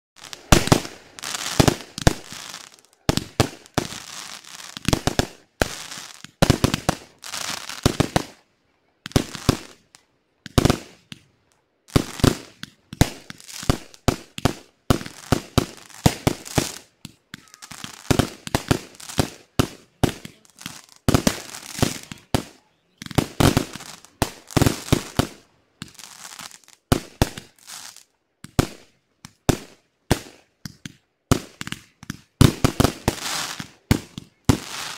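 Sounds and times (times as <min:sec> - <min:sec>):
fireworks bangs: 0:00.2 - 0:08.4, 0:11.9 - 0:34.9.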